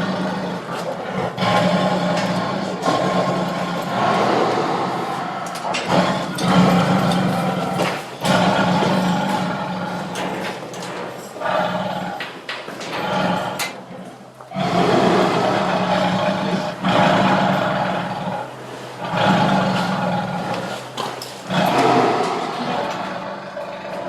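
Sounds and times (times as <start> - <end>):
tiger roaring and growling: 0.0 - 24.0.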